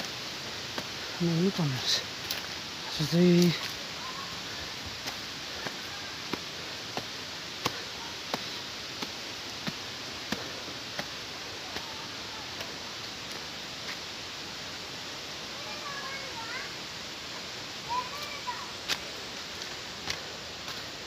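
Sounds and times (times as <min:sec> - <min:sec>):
footsteps on forest path: 0:00.0 - 0:21.0
steady hiss: 0:00.0 - 0:21.0.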